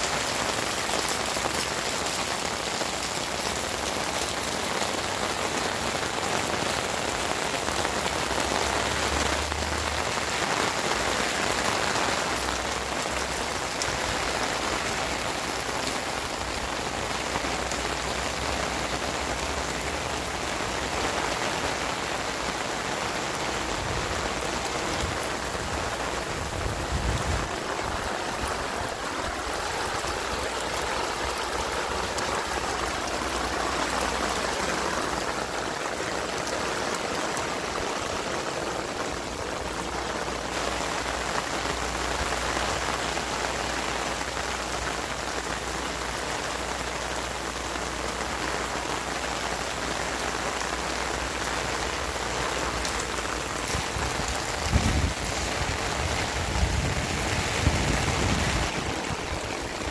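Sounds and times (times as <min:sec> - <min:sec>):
rain splashing on wet ground: 0:00.0 - 0:59.9.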